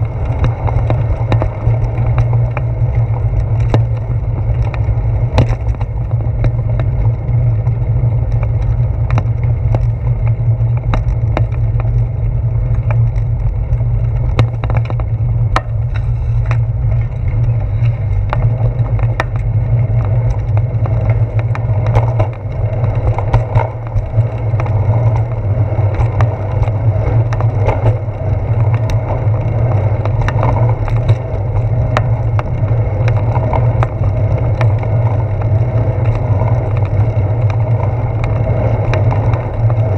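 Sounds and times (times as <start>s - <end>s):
bicycle rattling over bumps: 0.0s - 39.9s
road vibration rumble: 0.0s - 39.9s
wind: 0.0s - 39.9s.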